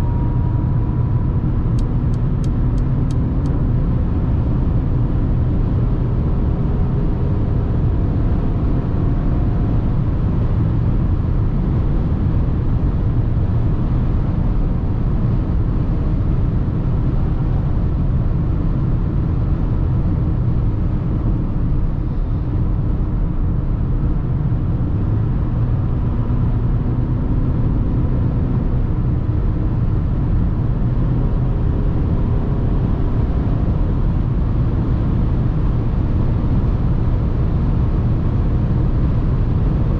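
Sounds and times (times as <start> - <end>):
faint engine hum: 0.0 - 39.9
road and wind rumble: 0.0 - 39.9.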